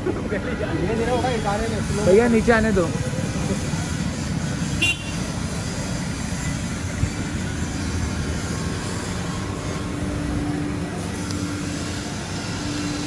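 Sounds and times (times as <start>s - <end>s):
industrial machinery drone: 0.0s - 13.0s.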